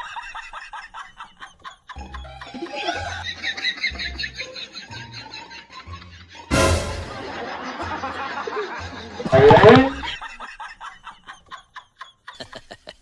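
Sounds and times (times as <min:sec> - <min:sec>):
people laughing and snickering: 0:00.0 - 0:13.0.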